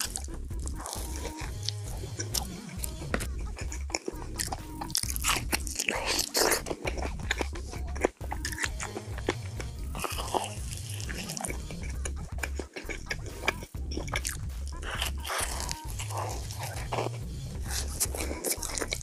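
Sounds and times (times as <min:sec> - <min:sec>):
chewing with wet mouth sounds: 0:00.0 - 0:19.0
crisp biting clicks: 0:00.0 - 0:19.0.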